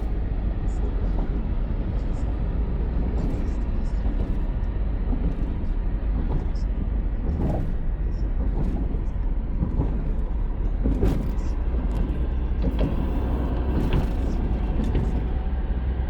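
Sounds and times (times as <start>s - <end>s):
clicks and knocks: 0.0s - 15.6s
low vehicle rumble: 0.0s - 16.0s.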